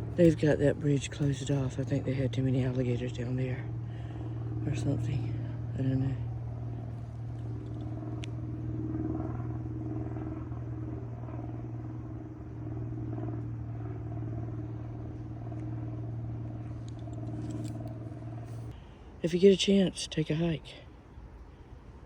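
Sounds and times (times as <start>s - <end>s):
low motor hum: 0.0s - 18.9s.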